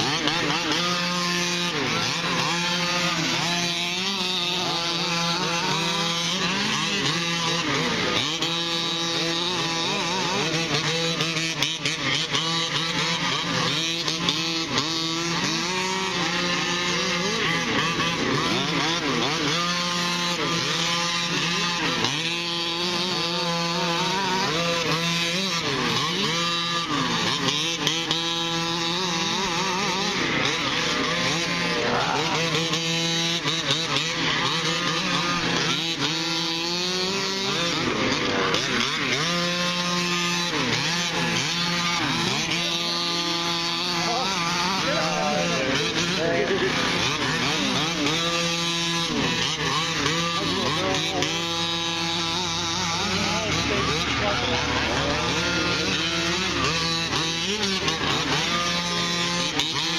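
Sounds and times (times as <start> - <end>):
small engines buzzing and revving: 0.0 - 59.9.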